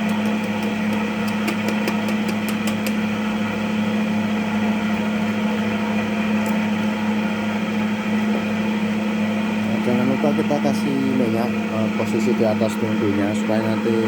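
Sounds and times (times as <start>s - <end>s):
cotton candy machine motor hum: 0.0s - 14.0s.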